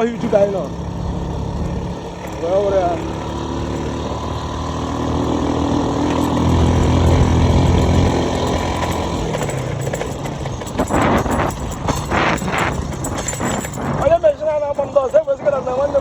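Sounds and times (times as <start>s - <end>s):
machinery engine running: 0.0s - 16.0s.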